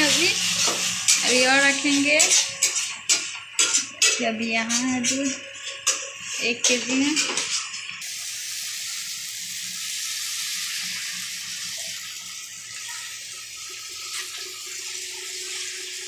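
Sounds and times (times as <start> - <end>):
spices sizzling in a pan: 0.0 - 16.0.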